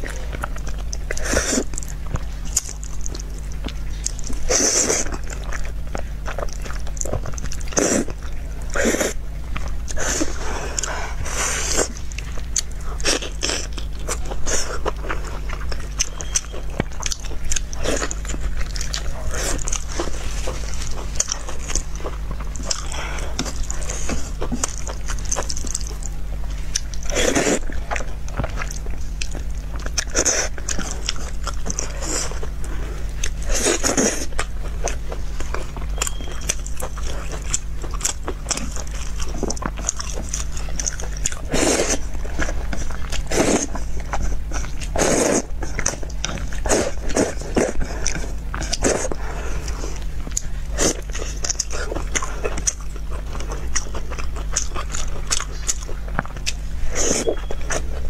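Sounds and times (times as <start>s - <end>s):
low hum: 0.0s - 58.0s
person chewing and slurping: 0.0s - 58.0s.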